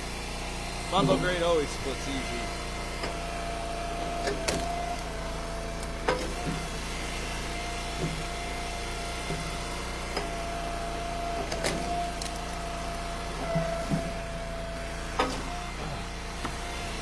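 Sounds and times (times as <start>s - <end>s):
log splitter engine running: 0.0s - 17.0s.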